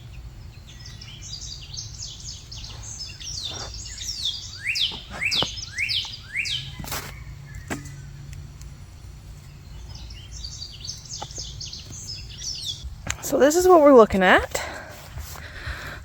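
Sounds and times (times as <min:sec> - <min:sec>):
songbird chirping: 0:00.0 - 0:15.9
low outdoor rumble: 0:00.0 - 0:16.0.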